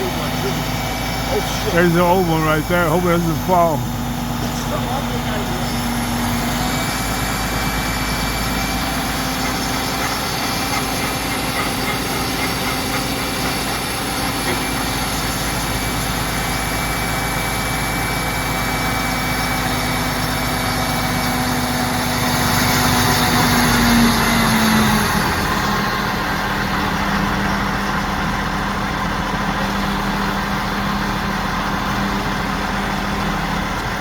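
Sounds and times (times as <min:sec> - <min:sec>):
crane diesel engine running: 0:00.0 - 0:34.0.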